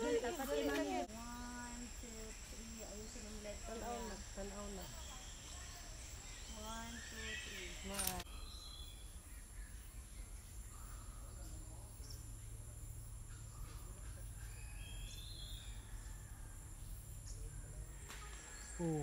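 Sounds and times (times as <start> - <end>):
faint distant calls: 0.0 - 19.0
high insect drone: 0.0 - 19.0.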